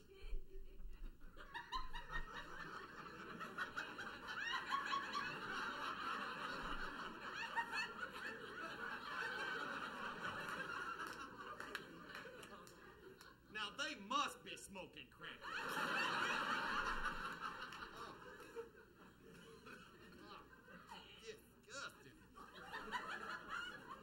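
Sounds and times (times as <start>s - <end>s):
audience laughing: 1.4s - 13.5s, 15.2s - 24.0s.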